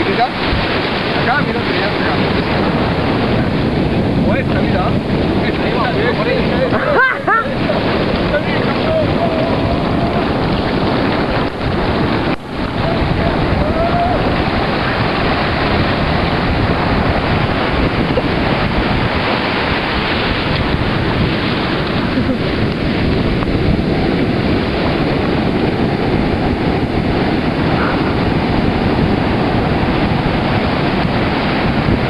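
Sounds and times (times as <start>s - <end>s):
ocean surf breaking: 0.0s - 32.0s
wind buffeting microphone: 0.0s - 32.0s.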